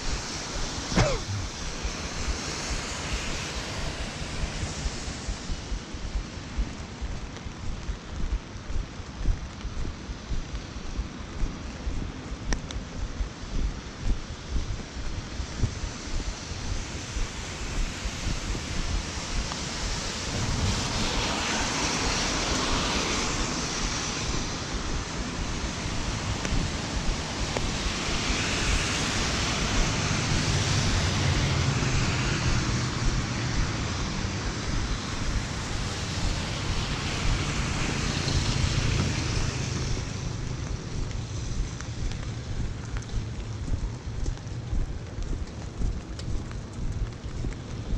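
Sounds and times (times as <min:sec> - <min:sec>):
low rumble: 0:00.0 - 0:21.8, 0:22.7 - 0:47.9
rain: 0:00.0 - 0:47.9
traffic hiss on wet road: 0:00.0 - 0:47.9
wind noise on microphone: 0:00.0 - 0:47.9.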